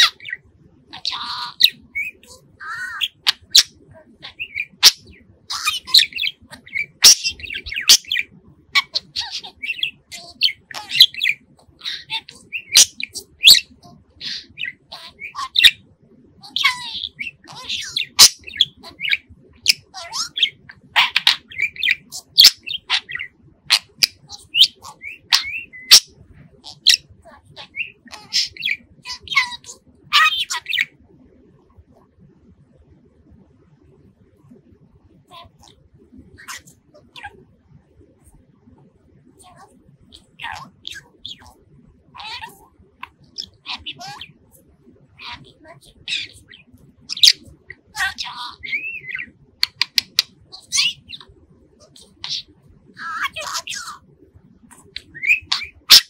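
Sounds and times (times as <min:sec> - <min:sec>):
budgerigar chirping and whistling: 0:00.0 - 0:15.8, 0:16.4 - 0:30.9, 0:39.4 - 0:41.6, 0:42.2 - 0:44.6, 0:45.2 - 0:54.0, 0:54.7 - 0:56.0.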